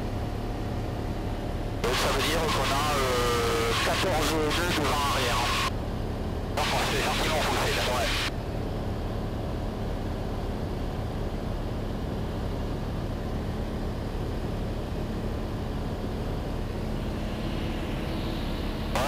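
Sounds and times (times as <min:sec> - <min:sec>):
aircraft engine droning in cabin: 0:00.0 - 0:19.0.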